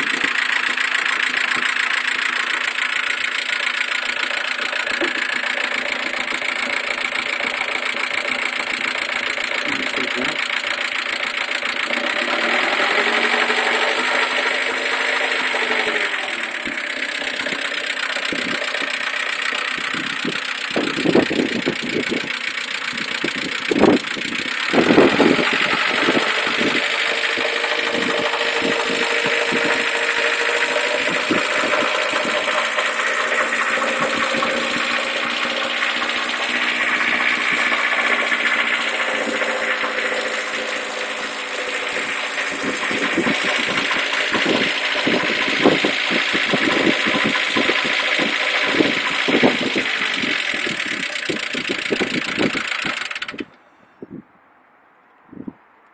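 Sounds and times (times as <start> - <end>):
car engine idling: 0.0 - 53.6.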